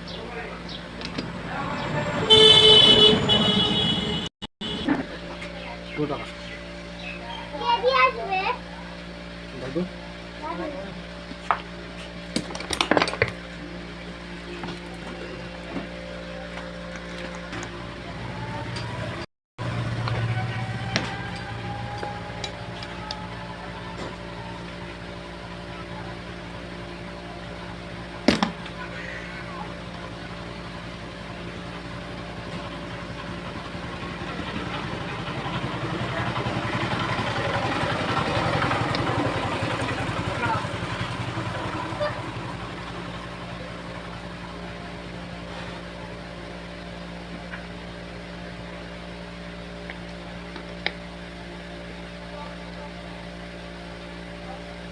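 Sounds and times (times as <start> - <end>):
engine idling: 0.0 - 11.9, 13.1 - 54.9.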